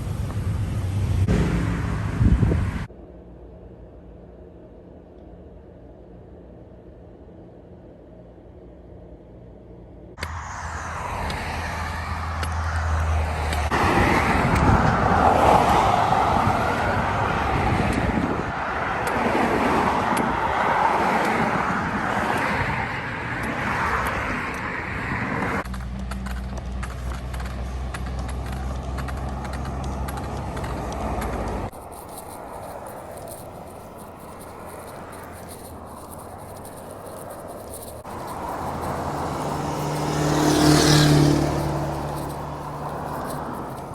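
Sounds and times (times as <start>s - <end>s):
vehicles passing on road: 0.0s - 4.2s, 5.4s - 43.9s.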